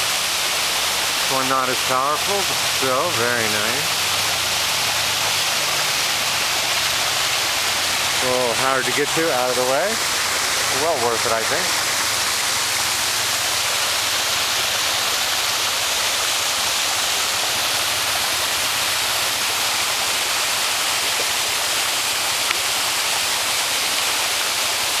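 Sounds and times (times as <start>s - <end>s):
waterfall rushing into pool: 0.0s - 25.0s.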